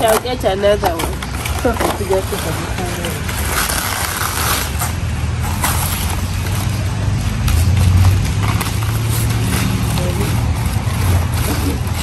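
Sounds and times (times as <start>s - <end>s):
leaves rustling and crackling: 0.0s - 12.0s.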